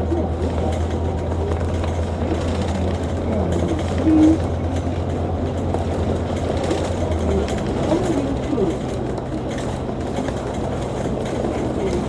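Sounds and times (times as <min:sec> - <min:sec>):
bus engine droning: 0:00.0 - 0:12.0
road and body rumble: 0:00.0 - 0:12.0.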